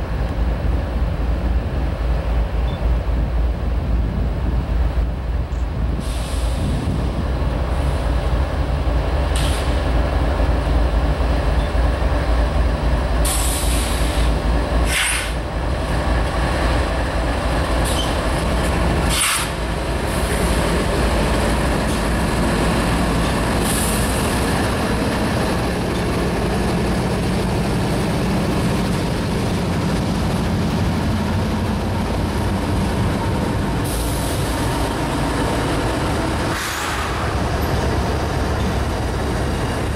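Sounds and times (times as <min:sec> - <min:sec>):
diesel locomotive engine drone: 0:00.0 - 0:39.9
wheels rumbling on rail: 0:00.0 - 0:39.9.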